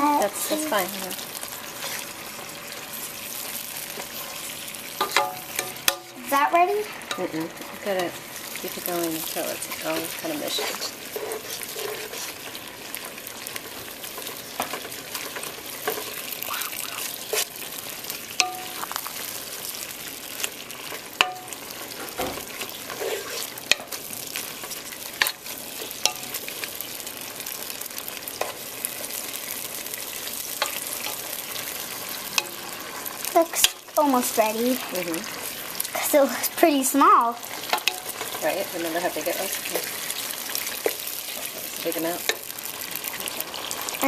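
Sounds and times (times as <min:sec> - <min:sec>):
vegetables sizzling in oil: 0:00.0 - 0:44.0.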